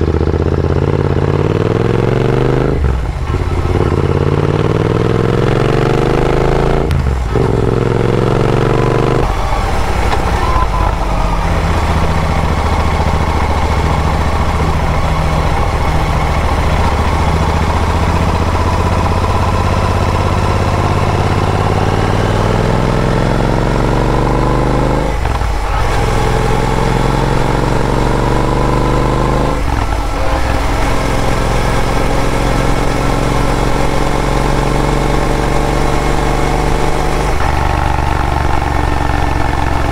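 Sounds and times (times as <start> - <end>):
motorcycle accelerating through gears: 0.0 - 39.9.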